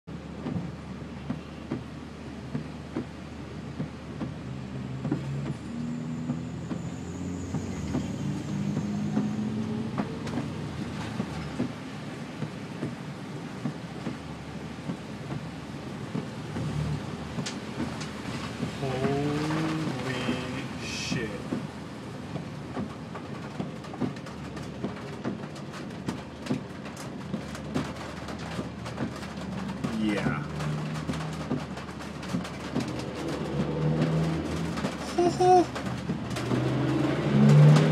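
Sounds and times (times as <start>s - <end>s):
engine hum: 0.1s - 37.9s
heavy rain: 0.1s - 37.9s
vehicle driving through water: 0.1s - 37.9s.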